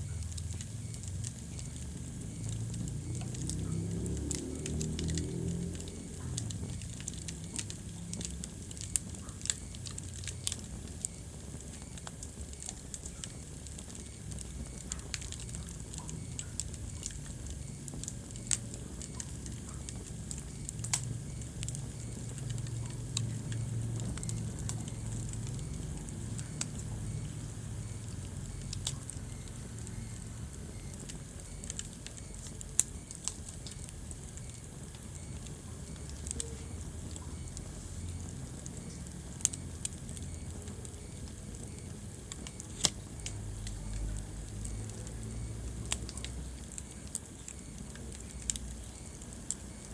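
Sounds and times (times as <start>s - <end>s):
low rumble of flames: 0.0s - 49.9s
wood fire crackling and popping: 0.0s - 49.9s.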